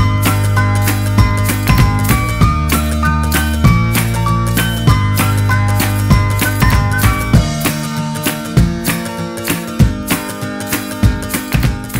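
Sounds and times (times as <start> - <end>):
music with tinkling melody: 0.0 - 11.9.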